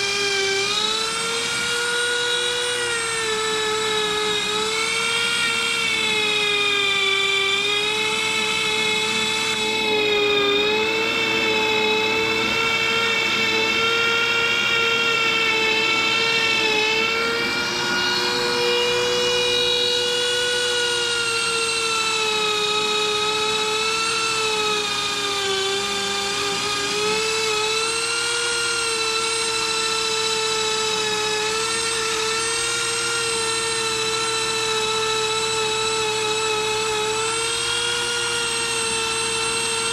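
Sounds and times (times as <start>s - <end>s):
rotary tool whining: 0.0s - 39.9s.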